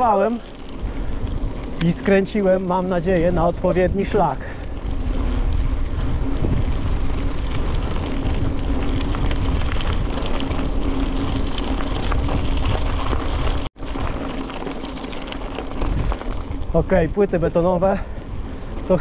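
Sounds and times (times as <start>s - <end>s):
bicycle tyre rumble on trail: 0.0s - 19.0s
wind noise on microphone: 2.8s - 19.0s.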